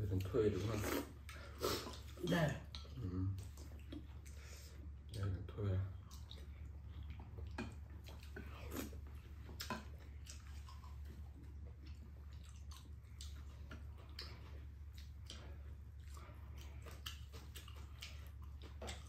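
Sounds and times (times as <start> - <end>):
chewing and mouth noises: 0.0 - 19.0
steady low hum: 0.0 - 19.0.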